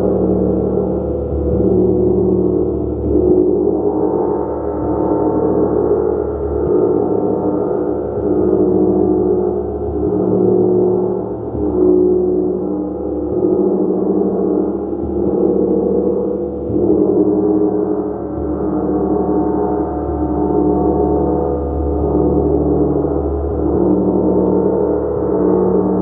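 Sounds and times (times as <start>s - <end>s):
gong shimmering: 0.0s - 26.0s.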